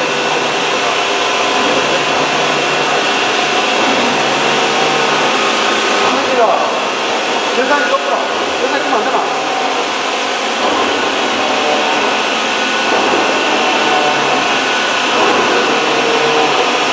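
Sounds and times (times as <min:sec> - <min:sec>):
constant high whine: 0:00.0 - 0:16.9
drilling machine hissing rush: 0:00.0 - 0:16.9.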